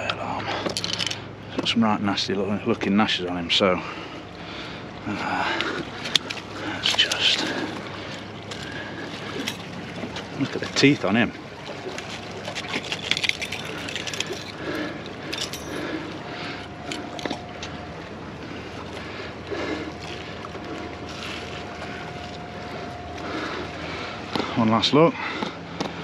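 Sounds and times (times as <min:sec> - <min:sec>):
faint steady tone: 0:00.0 - 0:26.0.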